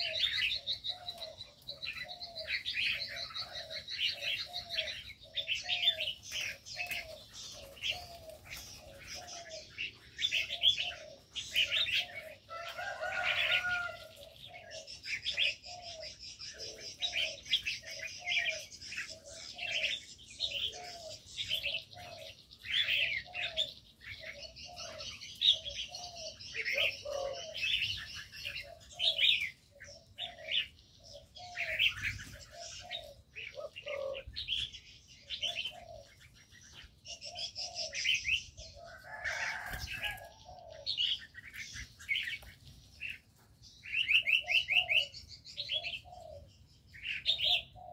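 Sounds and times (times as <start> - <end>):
doves cooing: 0.0 - 47.9
small birds chirping and whistling: 0.0 - 47.9.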